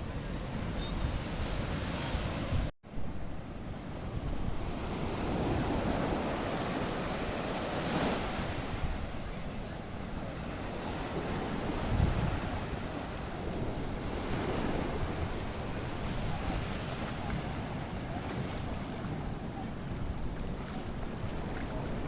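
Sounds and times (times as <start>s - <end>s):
wind buffeting microphone: 0.0s - 22.0s
sea waves washing in: 4.1s - 22.0s.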